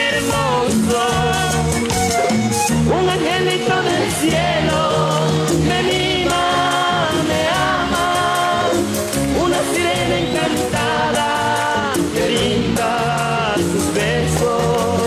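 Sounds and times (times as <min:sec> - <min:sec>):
man singing: 0:00.0 - 0:02.2, 0:02.8 - 0:15.0
bass: 0:00.0 - 0:15.0
steady percussion: 0:00.0 - 0:15.0
button accordion playing: 0:00.2 - 0:14.8.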